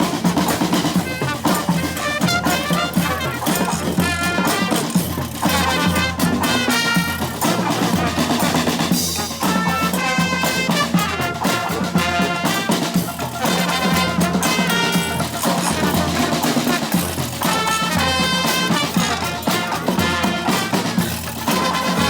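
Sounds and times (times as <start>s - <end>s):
brass band horns: 0.0s - 22.0s
drum beat: 0.0s - 22.0s.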